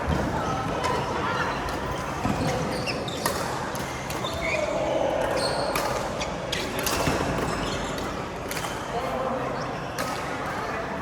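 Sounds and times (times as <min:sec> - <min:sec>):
background of badminton play: 0:00.0 - 0:11.0.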